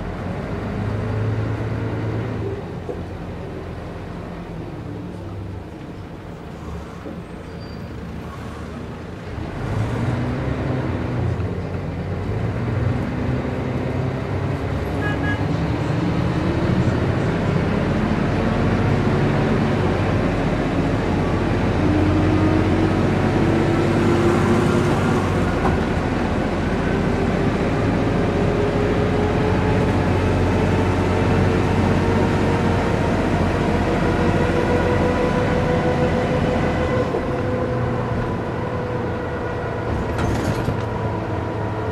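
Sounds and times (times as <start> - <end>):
bus diesel engine accelerating: 0.0 - 41.9.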